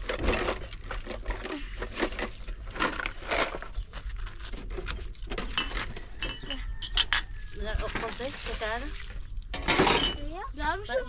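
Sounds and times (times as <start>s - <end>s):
rustling of handled things: 0.0s - 10.4s.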